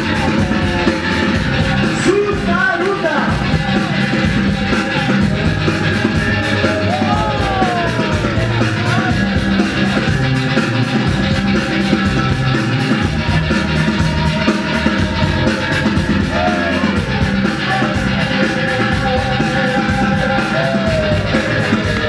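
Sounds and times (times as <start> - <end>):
loud music with quick beat: 0.0 - 22.0.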